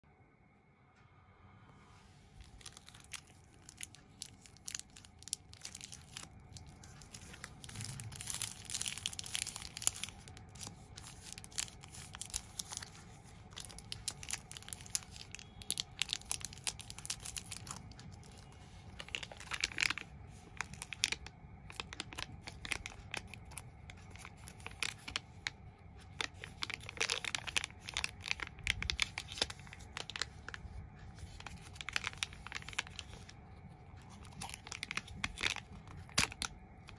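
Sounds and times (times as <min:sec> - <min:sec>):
wrappers crinkling: 0:02.3 - 0:33.4, 0:34.0 - 0:36.9.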